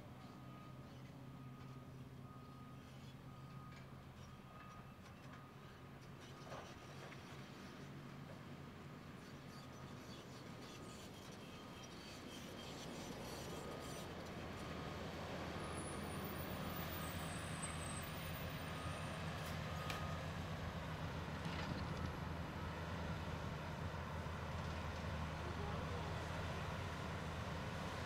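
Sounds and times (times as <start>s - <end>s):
excavator diesel engine droning: 0.0s - 28.0s.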